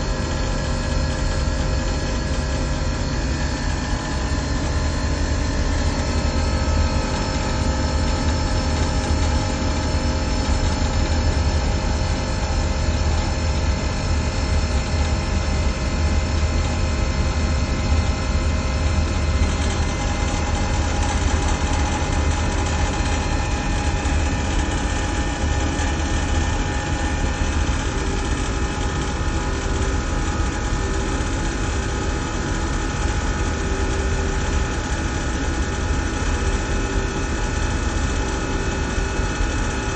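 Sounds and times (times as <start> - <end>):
machinery humming with low drone: 0.0 - 39.9.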